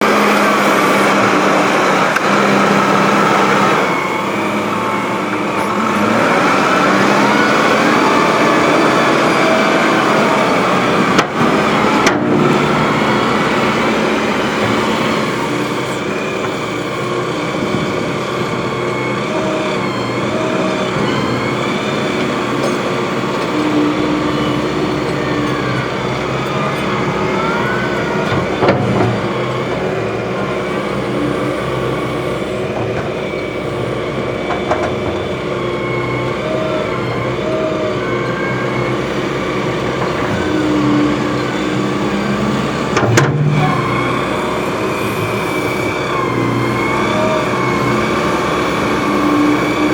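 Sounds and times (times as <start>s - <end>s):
diesel engines under load: 0.0s - 49.9s.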